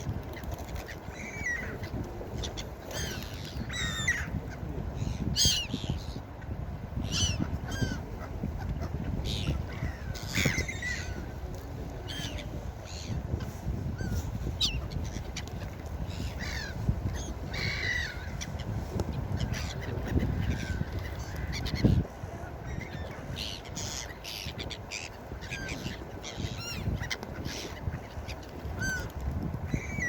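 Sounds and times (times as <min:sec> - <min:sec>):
gulls calling: 0:00.0 - 0:06.4, 0:07.0 - 0:30.0.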